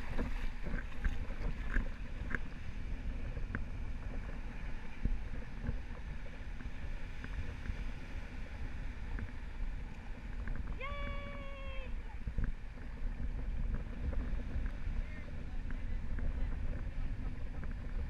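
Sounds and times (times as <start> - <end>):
shallow surf washing: 0.0 - 18.0
wind buffeting microphone: 0.0 - 18.0.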